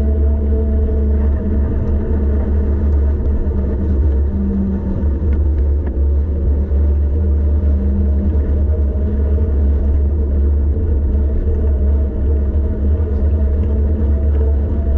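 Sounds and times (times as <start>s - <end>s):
bike hum: 0.0s - 14.9s
wind rumbling over microphone: 0.0s - 14.9s.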